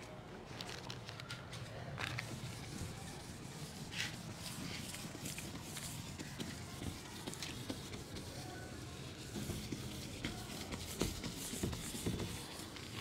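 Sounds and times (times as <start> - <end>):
whiteboard being wiped: 2.1 - 13.0.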